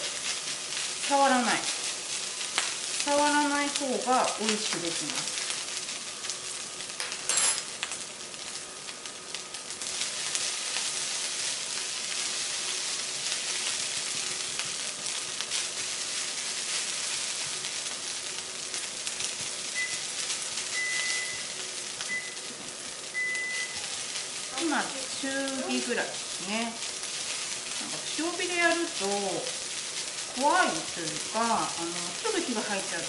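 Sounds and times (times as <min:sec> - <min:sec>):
fried rice sizzling in a pan: 0:00.0 - 0:33.0.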